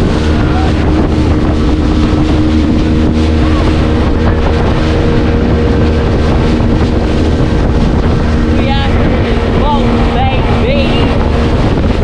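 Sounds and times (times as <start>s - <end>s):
rushing water: 0.0s - 12.0s
speedboat engine hum: 0.0s - 12.0s
wind buffeting microphone: 0.0s - 12.0s.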